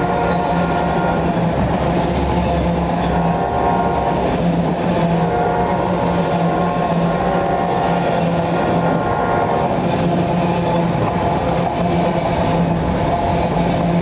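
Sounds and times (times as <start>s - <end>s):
multi-tone whine: 0.0s - 14.0s
train wheels rumbling on rail: 0.0s - 14.0s.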